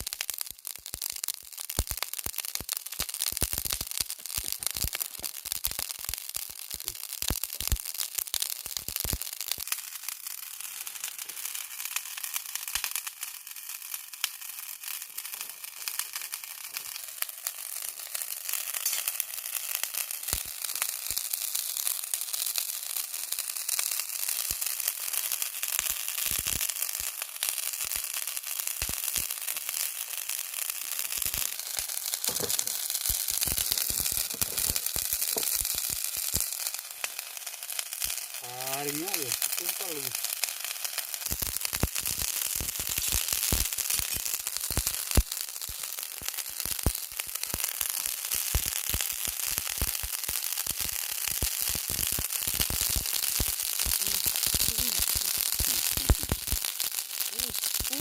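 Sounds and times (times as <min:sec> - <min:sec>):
crackles and pops of wood fire: 0:00.0 - 0:58.0
prawns sizzling on grill: 0:00.0 - 0:58.0.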